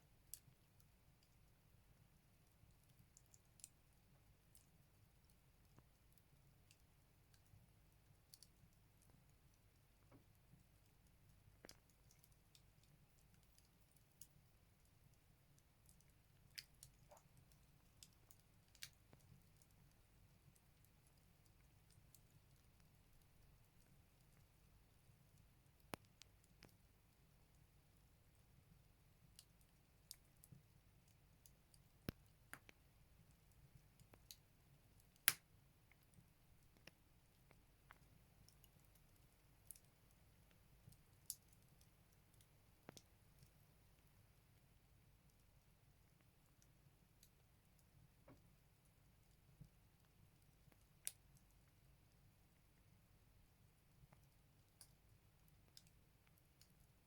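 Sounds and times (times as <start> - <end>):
firewood crackling in a stove: 0.0 - 57.0.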